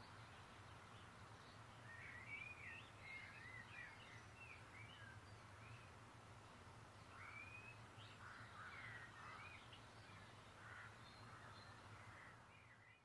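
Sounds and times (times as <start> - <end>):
songbirds chirping and whistling: 0.0 - 6.0, 7.1 - 13.0.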